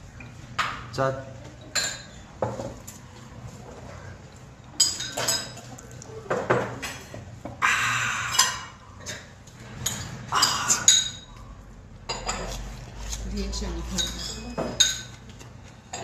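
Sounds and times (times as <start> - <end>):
dishes and cutlery clinking: 0.2 - 3.2, 4.6 - 7.5, 8.3 - 16.0.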